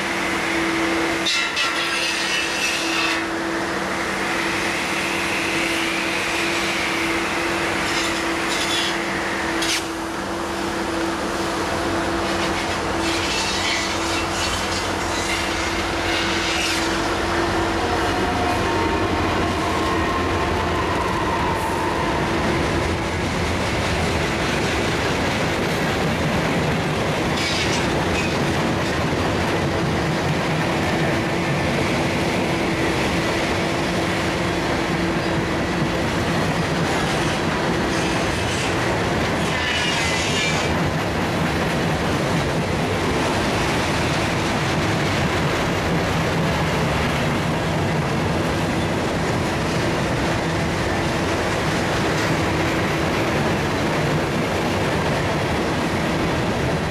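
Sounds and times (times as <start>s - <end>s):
freight train rolling past: 0.0s - 56.9s
wheels clickety-clack on rails: 0.0s - 56.9s.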